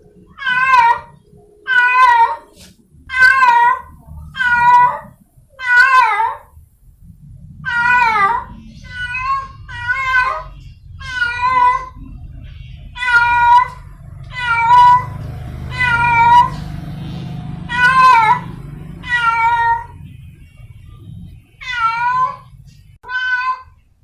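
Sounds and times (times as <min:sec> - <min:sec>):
cat yowling: 0:00.3 - 0:06.5, 0:07.6 - 0:12.1, 0:12.9 - 0:17.0, 0:17.6 - 0:20.0, 0:21.6 - 0:23.8.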